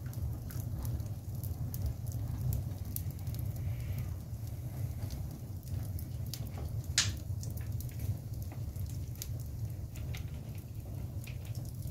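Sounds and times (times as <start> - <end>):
low steady rumble: 0.0 - 11.9
wood fire crackling: 0.0 - 11.9.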